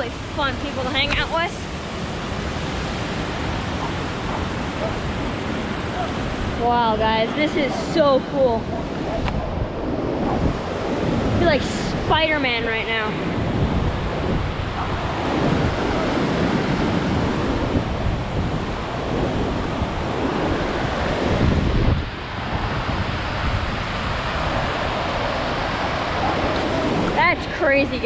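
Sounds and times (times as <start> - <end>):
waterfall and river rushing: 0.0 - 28.0
wind buffeting microphone: 0.0 - 28.0.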